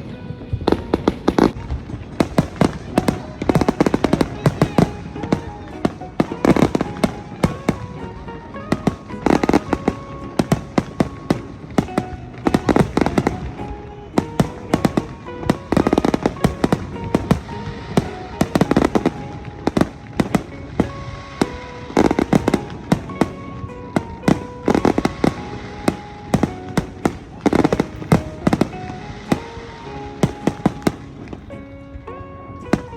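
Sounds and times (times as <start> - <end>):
fireworks bangs and crackles: 0.0 - 32.9
melodic music: 0.0 - 32.9.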